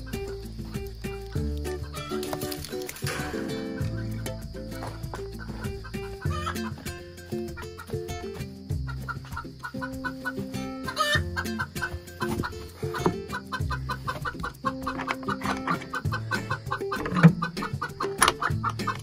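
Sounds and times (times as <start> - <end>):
background music with held chords: 0.0 - 19.0
chickens clucking: 0.0 - 19.0.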